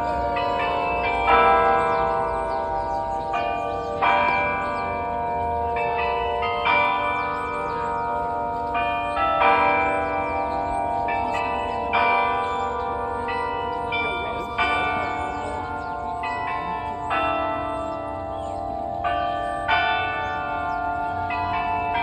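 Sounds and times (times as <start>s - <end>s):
clock bells playing a tune: 0.0s - 22.0s.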